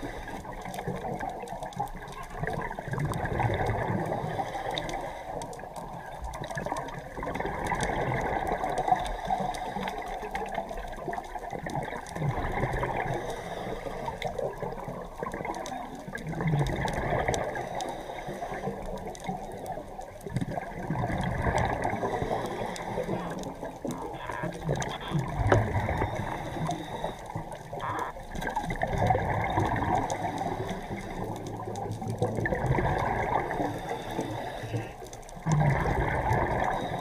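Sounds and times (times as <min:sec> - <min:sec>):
underwater bubbles gurgling: 0:00.0 - 0:37.0.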